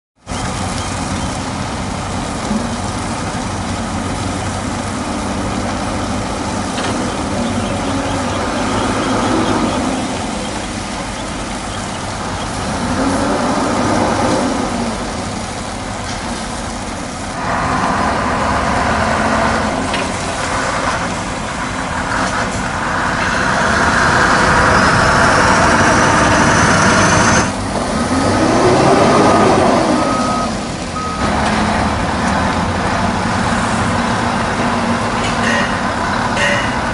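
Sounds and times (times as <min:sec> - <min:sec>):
diesel truck engines revving: 0:00.2 - 0:36.9.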